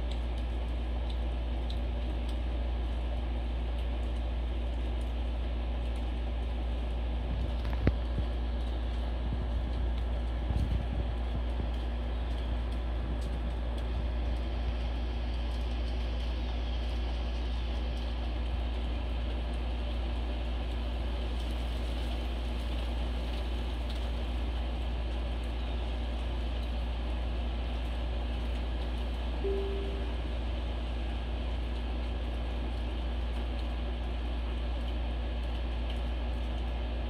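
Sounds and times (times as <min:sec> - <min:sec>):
faint constant hum: 0:00.0 - 0:37.0
low background rumble: 0:00.0 - 0:37.0.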